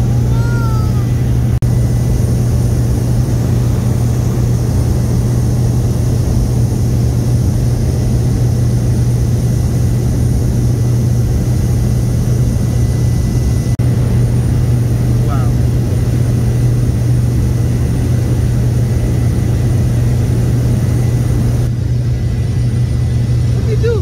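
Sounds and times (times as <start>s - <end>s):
propeller plane drone: 0.0s - 24.0s.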